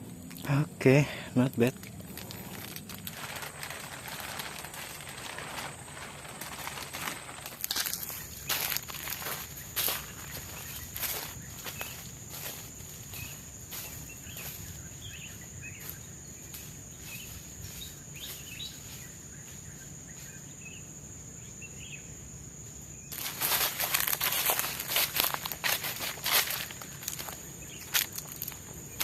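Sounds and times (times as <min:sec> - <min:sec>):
footsteps through leaf litter: 0:01.4 - 0:20.4, 0:23.1 - 0:29.0.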